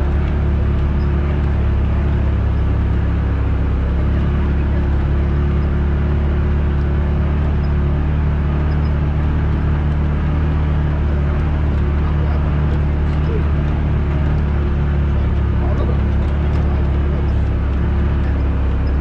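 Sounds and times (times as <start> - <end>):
constant rushing noise: 0.0 - 19.0
vehicle engine droning: 0.0 - 19.0.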